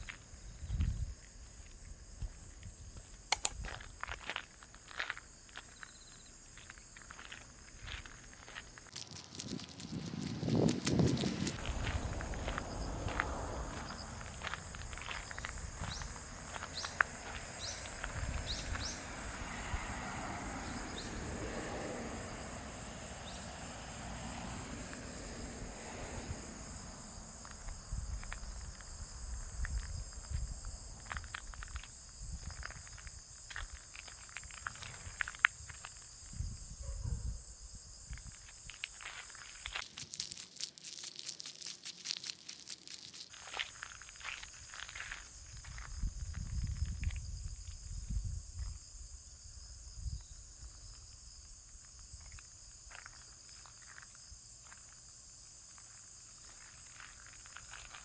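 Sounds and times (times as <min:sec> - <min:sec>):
footsteps walking outdoors: 0:00.0 - 0:19.5, 0:26.4 - 0:36.4, 0:37.7 - 0:48.9, 0:50.2 - 0:58.0
insects chirping: 0:00.0 - 0:58.0.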